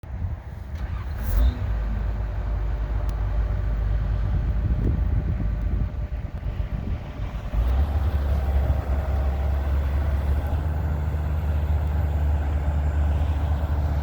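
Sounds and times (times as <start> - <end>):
excavator diesel engine running: 0.1 - 14.0.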